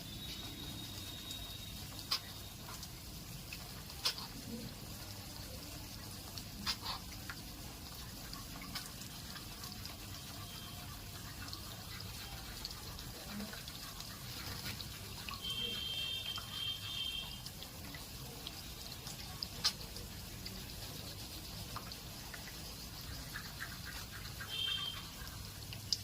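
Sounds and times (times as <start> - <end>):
faint drips and taps: 0.0 - 26.0
running water: 0.0 - 26.0.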